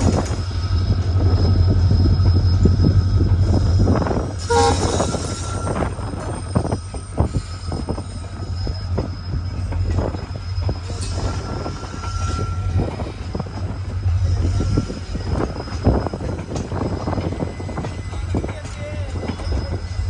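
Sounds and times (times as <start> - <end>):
faint wheel squeals: 0.0 - 20.0
train rumbling past: 0.0 - 20.0.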